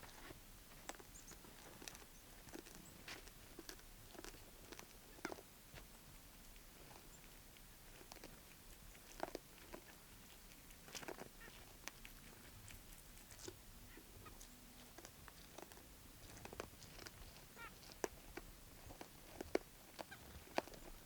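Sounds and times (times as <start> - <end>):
faint clicks and crunches: 0.0 - 13.6, 14.2 - 21.0.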